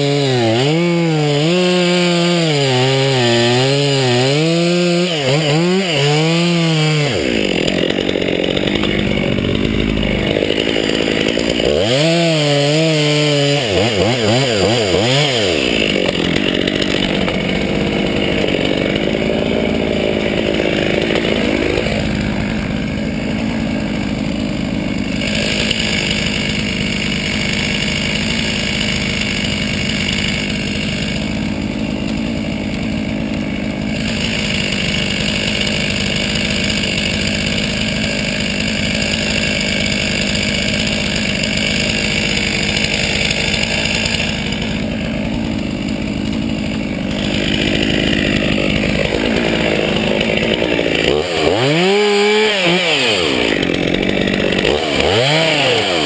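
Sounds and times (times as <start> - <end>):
chainsaw running: 0.0 - 56.0.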